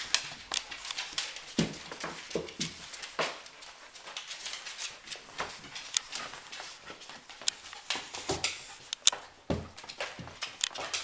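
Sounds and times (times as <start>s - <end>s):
animals scuffling and scratching: 0.0s - 11.0s.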